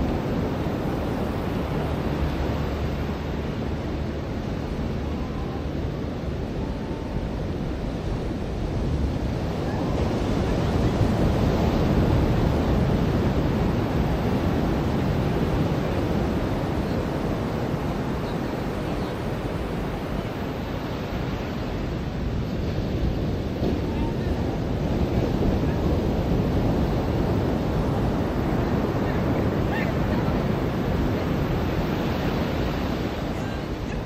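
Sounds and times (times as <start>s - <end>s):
ocean surf washing onto beach: 0.0s - 34.0s
wind on microphone: 0.0s - 34.0s.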